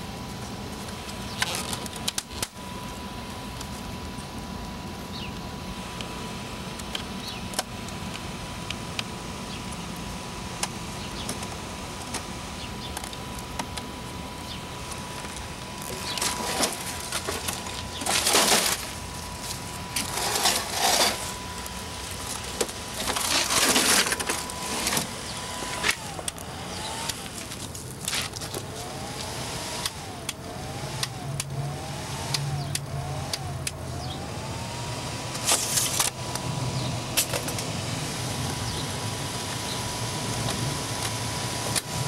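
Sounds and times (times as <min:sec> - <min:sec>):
crunching and grinding: 0:00.0 - 0:09.9, 0:10.5 - 0:37.7
photocopier high whine: 0:00.0 - 0:42.0.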